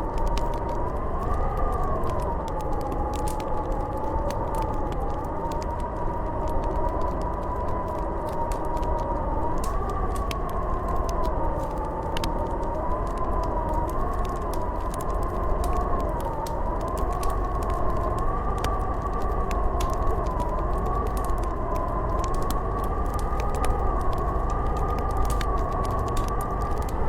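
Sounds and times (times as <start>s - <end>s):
blizzard wind howling: 0.0s - 27.0s
wood fire crackling: 0.0s - 27.0s.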